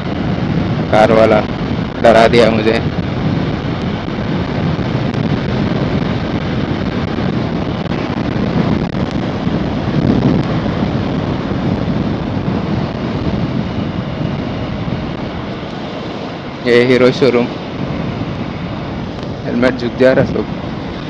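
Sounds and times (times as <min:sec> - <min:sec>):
motorcycle road and engine noise: 0:00.0 - 0:21.0
wind buffeting microphone: 0:00.0 - 0:21.0.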